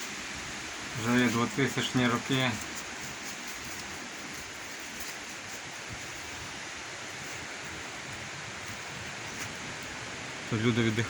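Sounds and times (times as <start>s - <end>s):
forest background noise: 0.0s - 11.0s.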